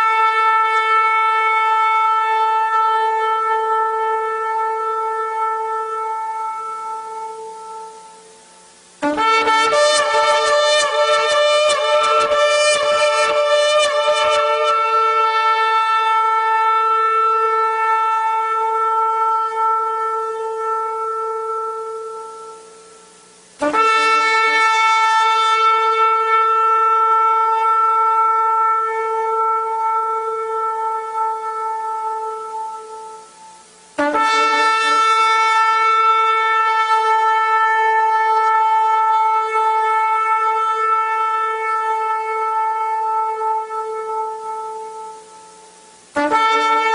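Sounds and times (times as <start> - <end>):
long steady horn blasts: 0.0 - 46.9.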